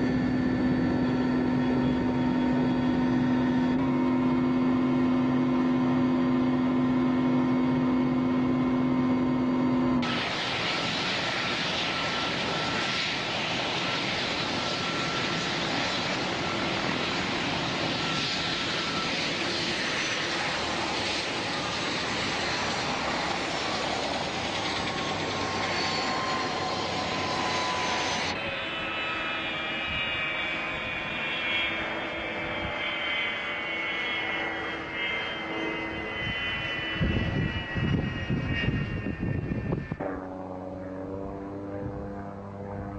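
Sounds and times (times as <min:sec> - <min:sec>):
microlight engine droning: 0:00.0 - 0:42.9.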